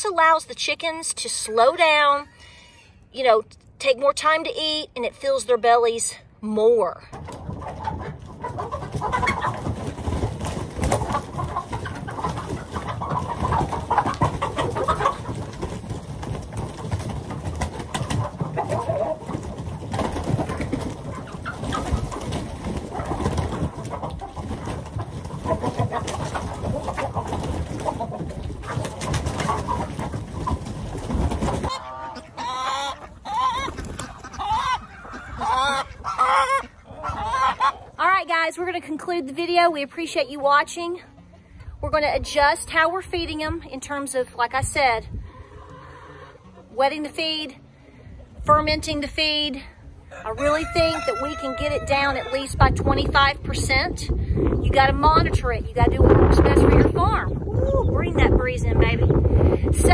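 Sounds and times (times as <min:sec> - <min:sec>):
chickens clucking and squawking: 0:00.0 - 0:03.3, 0:06.9 - 0:59.9.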